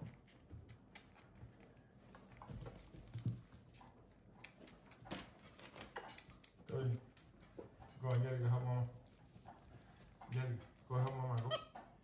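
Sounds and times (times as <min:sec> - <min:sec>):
soft rustles of handling: 0:00.0 - 0:11.3.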